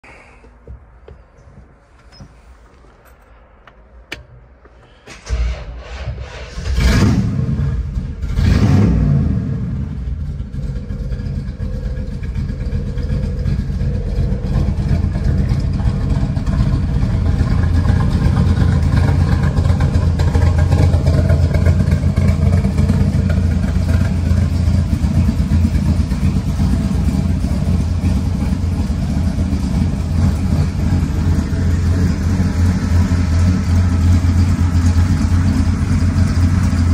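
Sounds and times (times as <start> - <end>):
truck engine starting and revving: 5.1 - 36.9.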